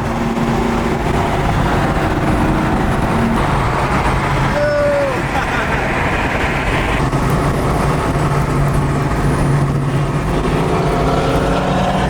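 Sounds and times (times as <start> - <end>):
car engine cruising: 0.0 - 12.0
road noise: 0.0 - 12.0.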